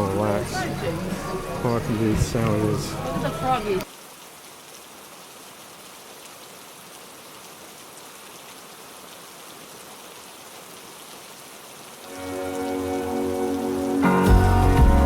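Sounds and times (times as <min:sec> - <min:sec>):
hiss of falling water: 0:00.6 - 0:15.0.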